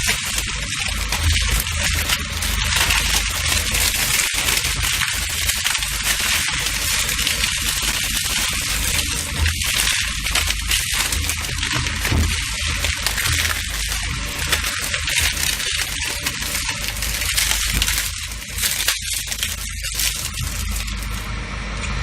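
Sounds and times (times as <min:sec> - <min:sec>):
low machine hum: 0:00.0 - 0:22.0
material cracking in shredder: 0:00.0 - 0:22.0.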